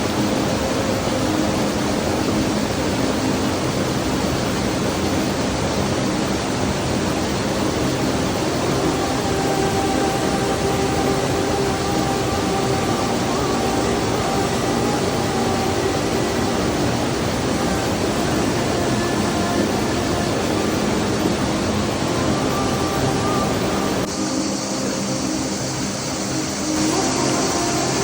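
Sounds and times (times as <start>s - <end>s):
faint steady tones: 0.0s - 28.0s
stream and waterfalls rushing: 0.0s - 28.0s.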